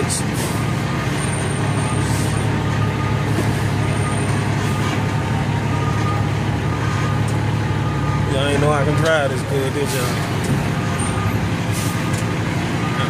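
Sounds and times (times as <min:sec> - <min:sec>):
truck engine hum from cab: 0:00.0 - 0:13.0.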